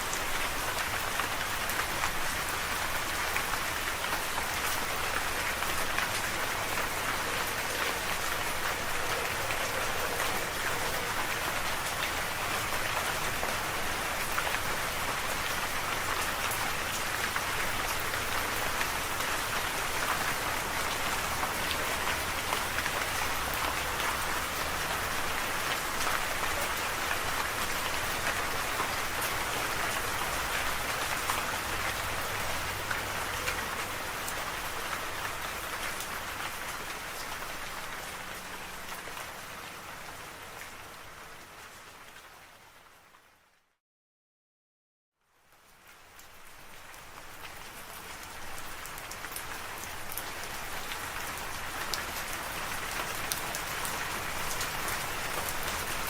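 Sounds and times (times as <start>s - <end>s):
steady rain falling: 0.0s - 43.7s, 45.2s - 56.0s.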